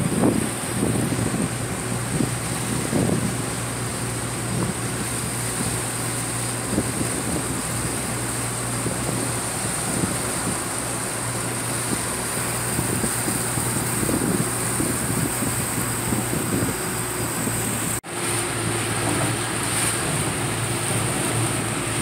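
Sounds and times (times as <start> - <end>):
boat engines droning: 0.0 - 22.0.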